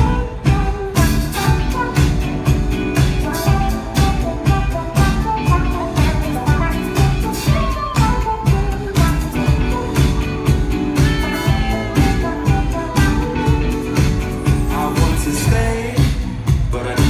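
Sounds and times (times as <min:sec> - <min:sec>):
drums keeping steady beat: 0:00.0 - 0:17.0
live band playing: 0:00.0 - 0:17.0.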